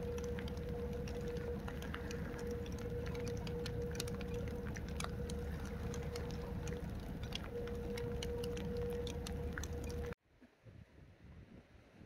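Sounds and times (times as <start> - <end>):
rain pattering: 0.0 - 10.2
steady tone: 0.0 - 10.2.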